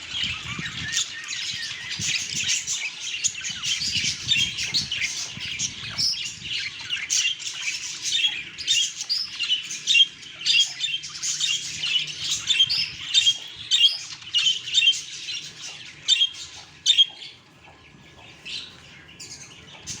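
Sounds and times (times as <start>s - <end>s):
budgerigars chirping and squawking: 0.0s - 20.0s.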